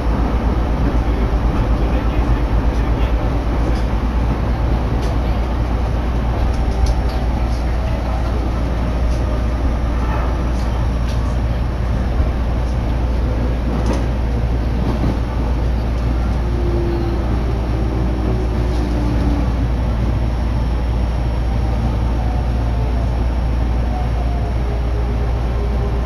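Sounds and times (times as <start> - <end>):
electric train rumble: 0.0 - 26.0
faint train whine: 0.0 - 26.0.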